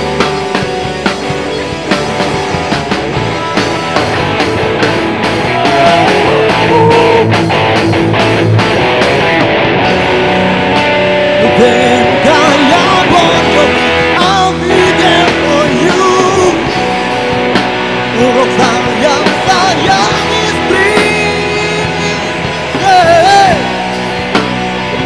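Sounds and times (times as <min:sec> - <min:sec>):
lead guitar bending notes: 0:00.0 - 0:25.0
rock band playing: 0:00.0 - 0:25.0.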